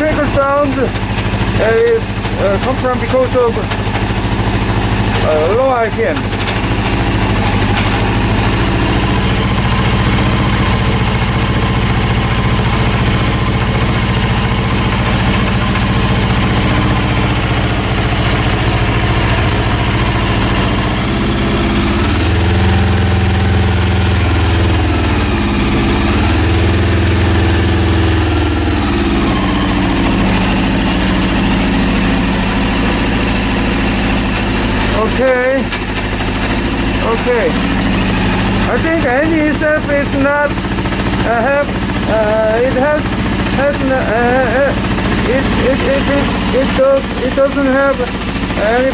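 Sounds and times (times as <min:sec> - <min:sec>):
engine mechanical noise: 0:00.0 - 0:48.9
motorcycle engine idling and revving: 0:00.0 - 0:48.9.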